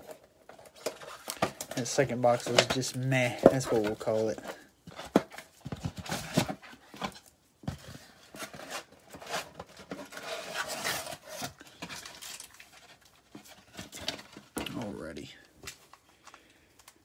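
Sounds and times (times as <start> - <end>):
foil wrappers crinkling: 0.0 - 7.3, 8.2 - 17.0.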